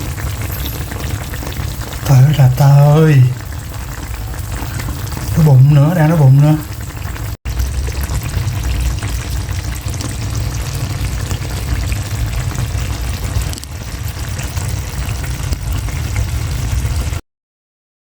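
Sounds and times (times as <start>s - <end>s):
hot oil sizzling in a pan: 0.0s - 17.2s.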